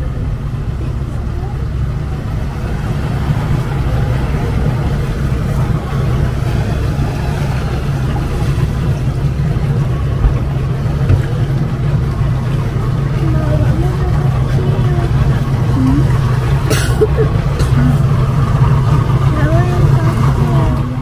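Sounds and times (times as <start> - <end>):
motorboat engine droning: 0.0 - 21.0.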